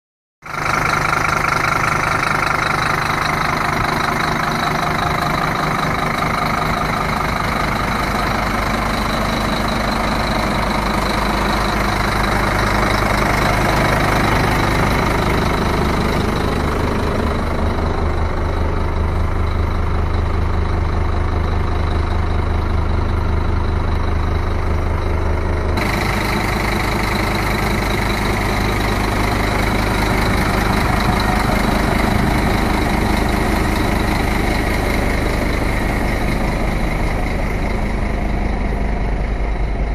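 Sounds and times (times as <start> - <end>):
diesel truck engine idling: 0.4 - 39.9.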